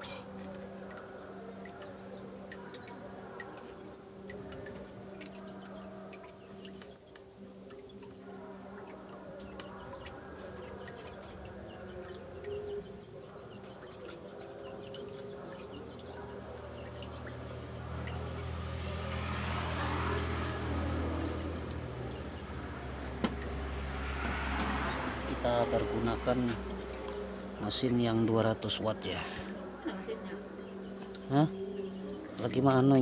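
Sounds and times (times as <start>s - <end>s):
electric pump humming: 0.0s - 33.0s
insects: 0.0s - 33.0s.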